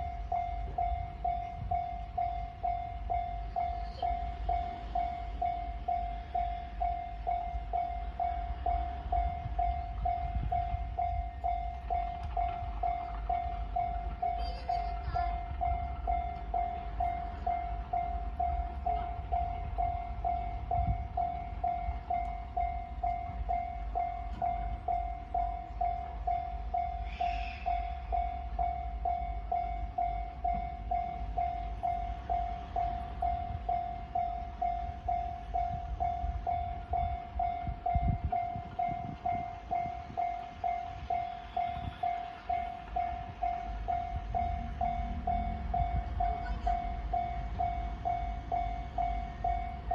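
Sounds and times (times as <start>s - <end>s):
level-crossing warning bell: 0.0s - 49.9s
passing train rumble: 0.0s - 49.9s.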